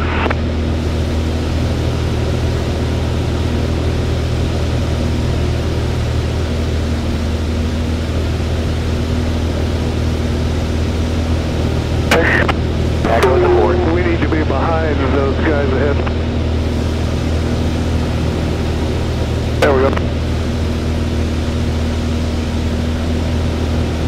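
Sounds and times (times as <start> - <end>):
aircraft engine and propeller droning: 0.0 - 24.0.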